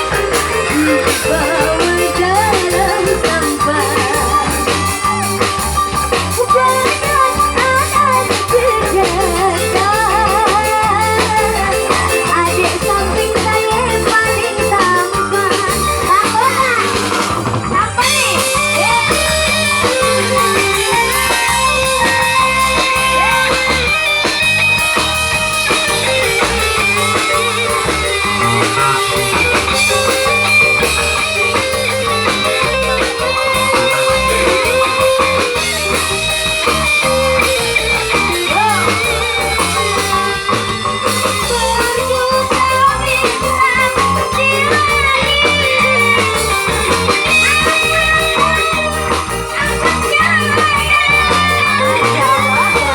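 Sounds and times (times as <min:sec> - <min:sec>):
live band music with guitar: 0:00.0 - 0:52.9
melody gliding above band: 0:00.0 - 0:52.9
steady drum beat: 0:00.0 - 0:52.9.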